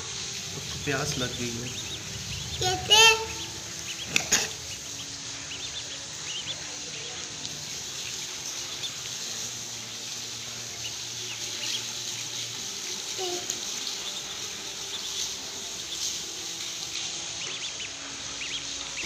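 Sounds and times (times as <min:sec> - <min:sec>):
background hiss: 0:00.0 - 0:19.0
ducklings peeping: 0:00.0 - 0:19.0.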